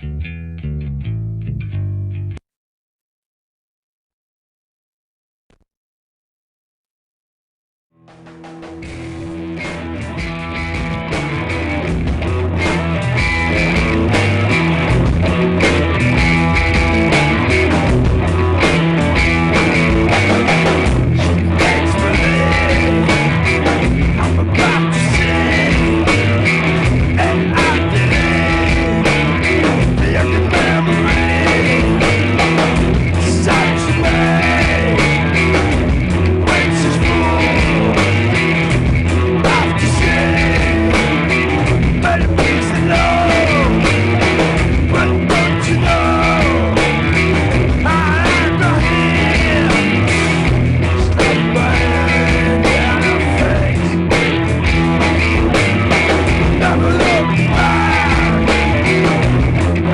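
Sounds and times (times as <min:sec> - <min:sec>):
rock band music: 0:08.0 - 0:59.9.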